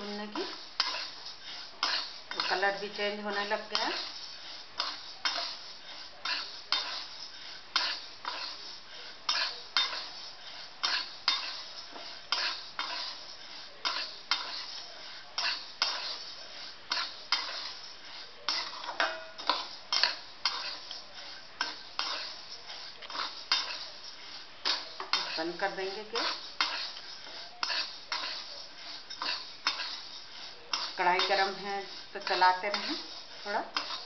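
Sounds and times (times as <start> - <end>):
dry grains rattling in pan: 0.0 - 34.0
spatula scraping metal pan: 0.0 - 34.0.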